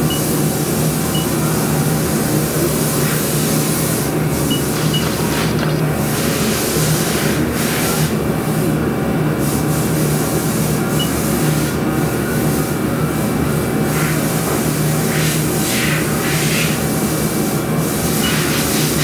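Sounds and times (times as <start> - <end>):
lathe mechanical hum: 0.0 - 19.0.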